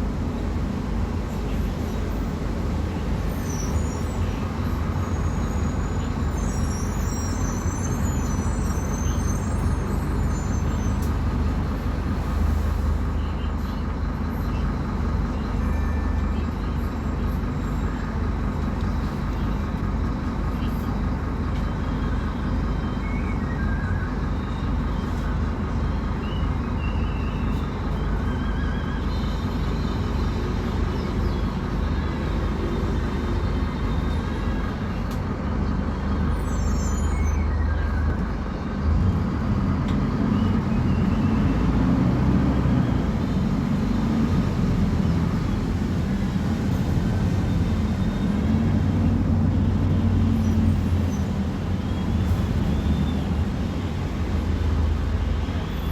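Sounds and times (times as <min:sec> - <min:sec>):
bus engine running: 0:00.0 - 0:55.9.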